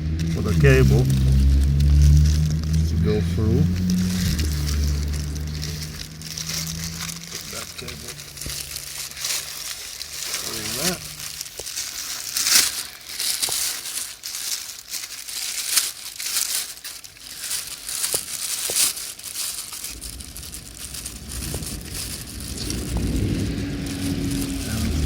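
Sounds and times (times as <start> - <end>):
low rumble: 0.0 - 12.4, 17.0 - 25.0
plastic bag crinkling: 0.0 - 25.0.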